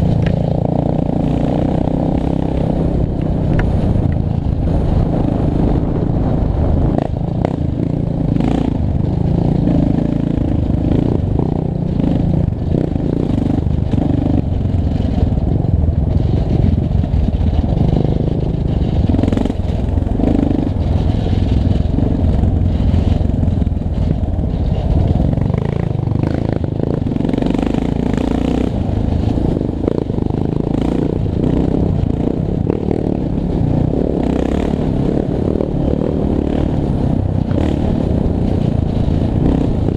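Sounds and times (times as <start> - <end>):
quad bike engine running hard: 0.0 - 39.9.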